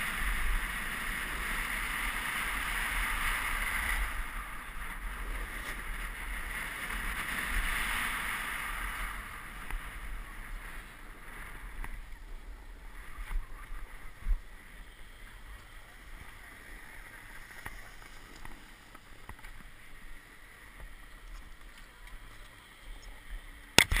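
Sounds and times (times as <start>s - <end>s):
snowboard scraping over snow: 0.0s - 22.3s.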